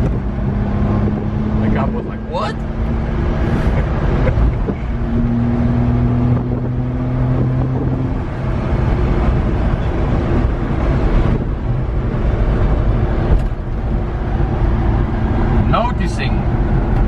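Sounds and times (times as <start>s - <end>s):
road rumble: 0.0s - 17.0s
wind: 0.0s - 17.0s.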